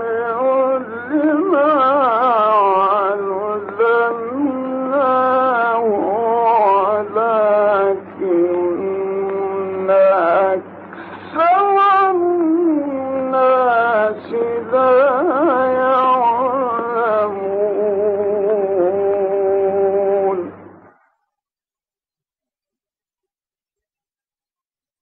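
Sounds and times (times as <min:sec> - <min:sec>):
man chanting melodically: 0:00.0 - 0:20.6
steady low hum: 0:00.0 - 0:21.1.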